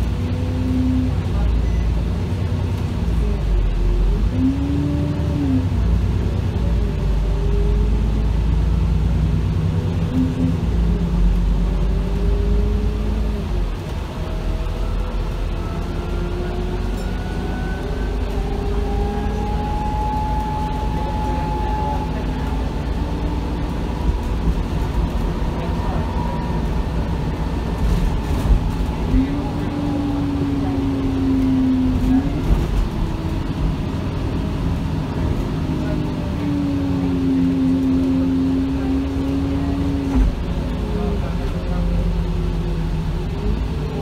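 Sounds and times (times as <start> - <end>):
bus engine rumble: 0.0 - 44.0
whining drivetrain: 0.0 - 44.0.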